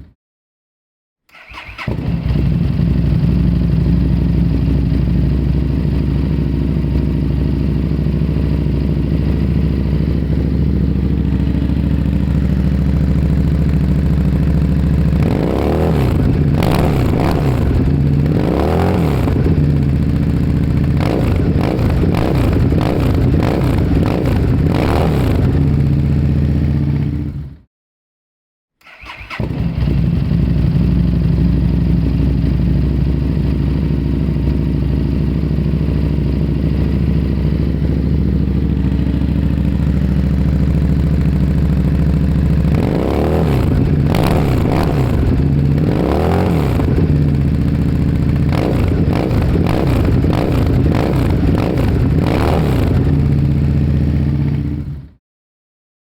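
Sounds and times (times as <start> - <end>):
motorcycle engine revving: 1.3 - 27.6, 28.8 - 55.1.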